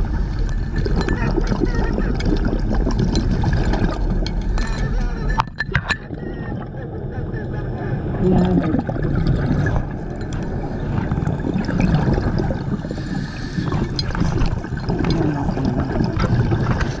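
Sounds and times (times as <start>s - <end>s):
water rushing and gurgling: 0.0s - 17.0s.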